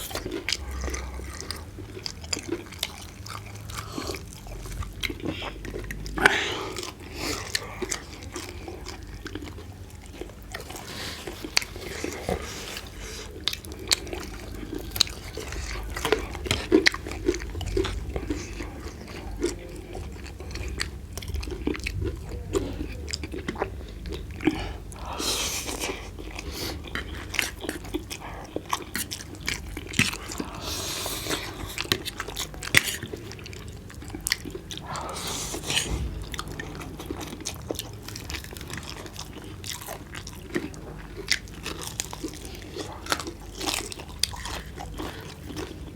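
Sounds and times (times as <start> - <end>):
chewing and biting chicken: 0.0 - 45.9
rustling or slurping: 0.0 - 45.9.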